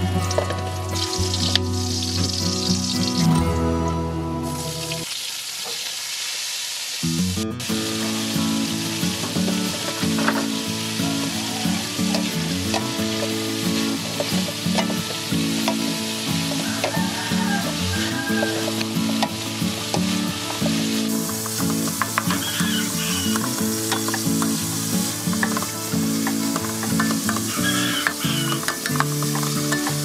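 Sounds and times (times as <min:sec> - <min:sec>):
vegetables sizzling in hot oil: 0:00.0 - 0:03.4, 0:04.4 - 0:30.0.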